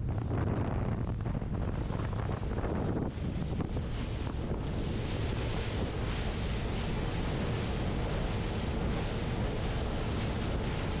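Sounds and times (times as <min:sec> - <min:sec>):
motorboat water noise: 0:00.0 - 0:11.0
wind on microphone: 0:00.0 - 0:11.0.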